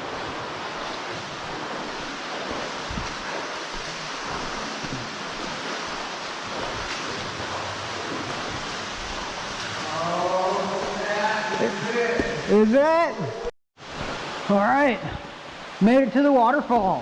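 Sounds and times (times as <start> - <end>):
underground waterfall roaring: 0.0 - 17.0.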